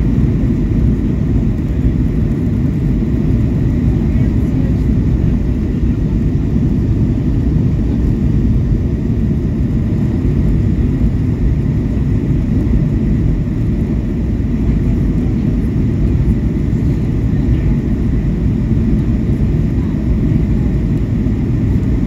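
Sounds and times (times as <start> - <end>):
jet engines and airflow rumble: 0.0 - 22.0.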